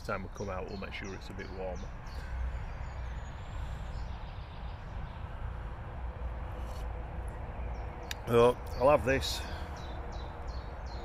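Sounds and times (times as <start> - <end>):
motorway traffic rumble: 0.0 - 11.0.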